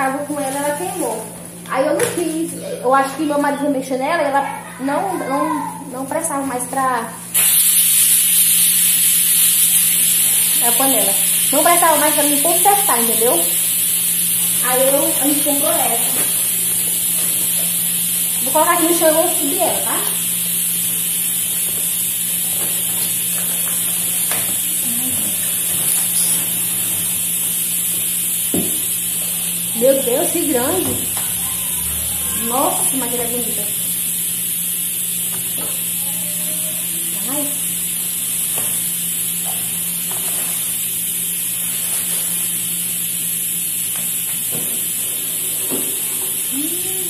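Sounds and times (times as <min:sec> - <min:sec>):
steam hissing from a pot: 0:07.2 - 0:47.0.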